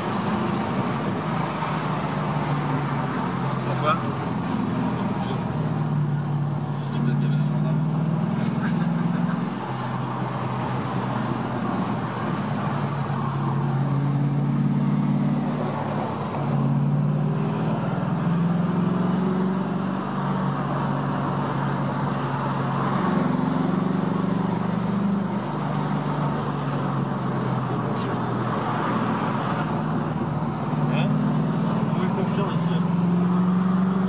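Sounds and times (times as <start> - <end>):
car engine revving: 0.0 - 34.0
road noise: 0.0 - 34.0.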